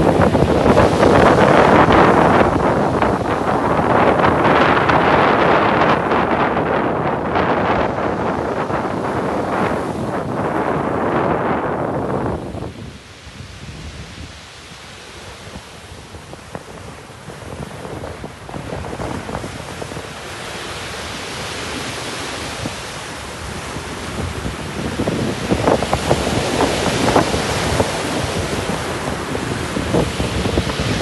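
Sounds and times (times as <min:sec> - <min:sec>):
sea waves breaking: 0:00.0 - 0:31.0
wind rumbling on microphone: 0:00.0 - 0:31.0.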